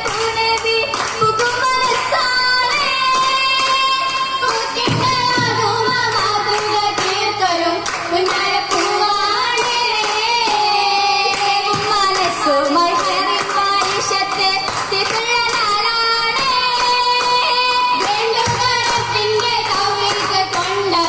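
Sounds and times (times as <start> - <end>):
girls singing in chorus: 0.0 - 21.0
hand-clapping: 0.0 - 21.0.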